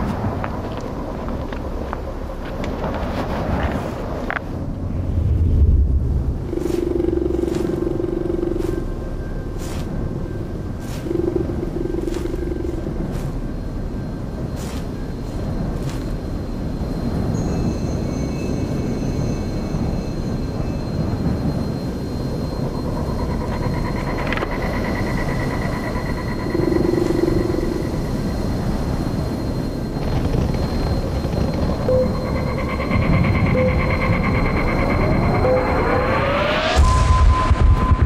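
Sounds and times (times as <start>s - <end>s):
drivetrain whine: 0.0s - 38.0s.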